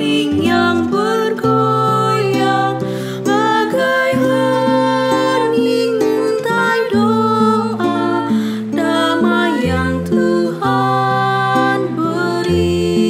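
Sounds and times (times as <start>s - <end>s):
plucked acoustic guitar: 0.0s - 13.0s
women singing a hymn in harmony: 0.0s - 13.0s.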